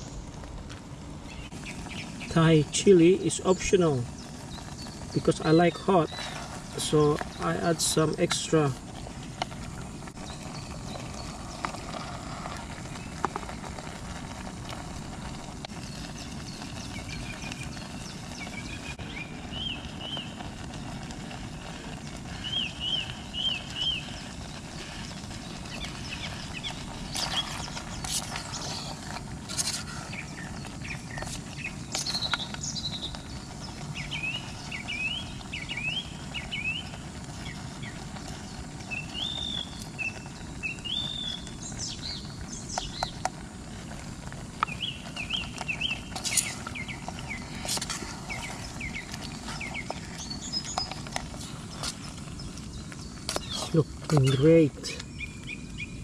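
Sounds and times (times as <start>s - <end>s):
birds chirping: 0.0s - 56.0s
gas stove hissing: 0.0s - 56.0s.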